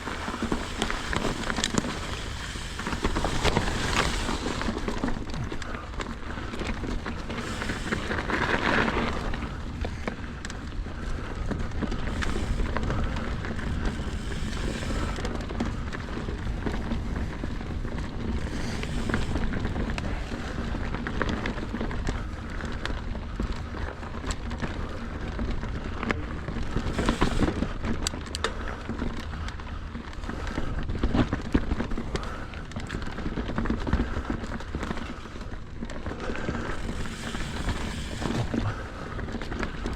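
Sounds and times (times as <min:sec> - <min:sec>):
bike chain and frame rattling: 0:00.0 - 0:39.9
bike tyres on dirt: 0:00.0 - 0:39.9.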